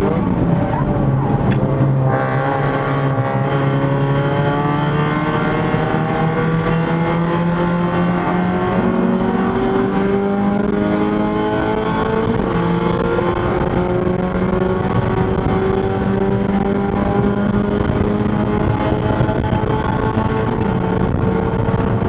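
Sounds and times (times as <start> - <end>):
car engine accelerating: 0.0 - 22.0
road and tyre noise: 0.0 - 22.0.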